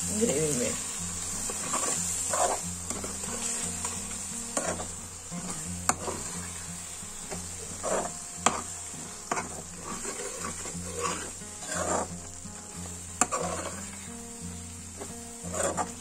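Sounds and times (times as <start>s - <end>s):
steady sizzle: 0.0s - 16.0s
metal spoon scraping a pan: 0.1s - 16.0s.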